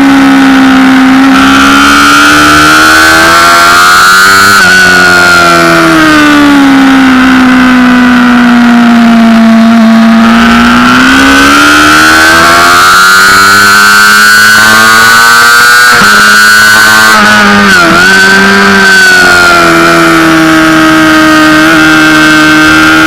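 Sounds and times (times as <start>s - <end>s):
gear upshifts: 0.0s - 23.0s
motorcycle engine revving: 0.0s - 23.0s.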